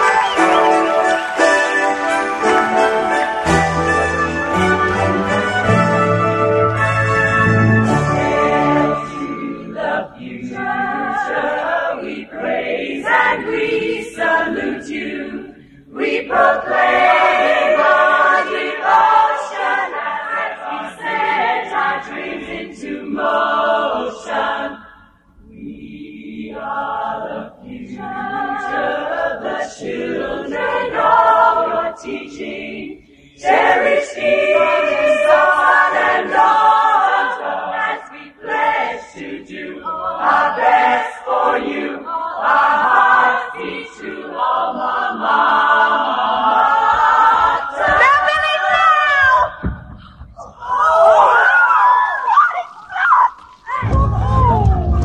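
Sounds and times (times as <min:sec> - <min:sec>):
choir singing a hymn-like song: 0:00.0 - 0:49.6.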